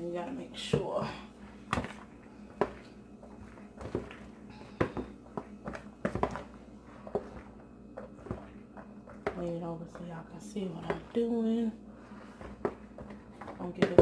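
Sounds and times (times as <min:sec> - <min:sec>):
wooden spoon stirring macaroni: 0:01.4 - 0:14.0.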